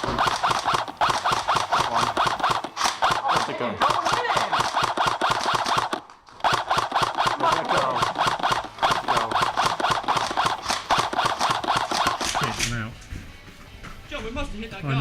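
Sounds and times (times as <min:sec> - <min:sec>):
airsoft gun full-auto bursts: 0:00.0 - 0:12.7.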